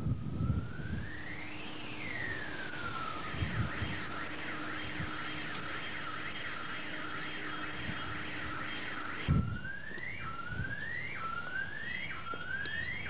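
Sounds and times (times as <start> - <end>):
electronic siren wailing and yelping: 0.4 - 13.0.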